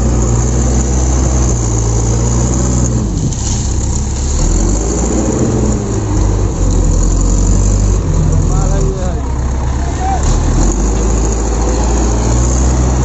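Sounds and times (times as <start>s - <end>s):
backhoe loader diesel engine: 0.0s - 13.0s.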